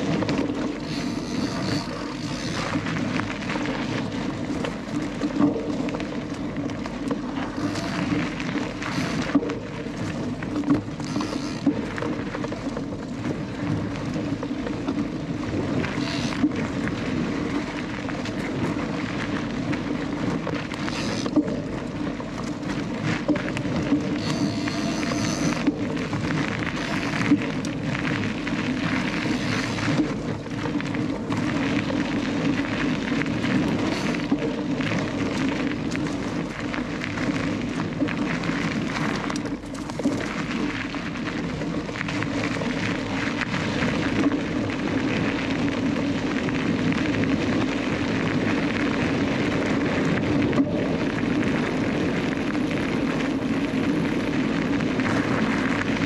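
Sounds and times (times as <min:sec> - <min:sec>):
bike chain and frame rattling: 0:00.0 - 0:56.0
tyre rumble over gravel: 0:00.0 - 0:56.0
wind noise on microphone: 0:00.0 - 0:56.0.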